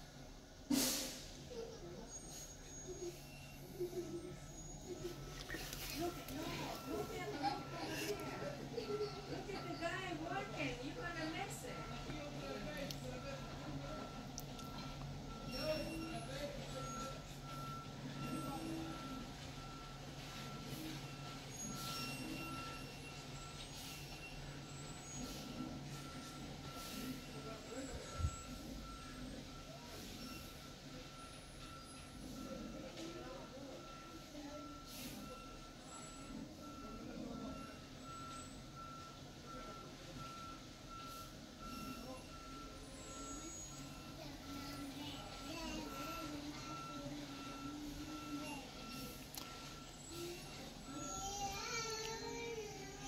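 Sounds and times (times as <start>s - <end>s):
engine humming: 0.0s - 53.0s
reversing alarm beeping: 2.2s - 53.0s.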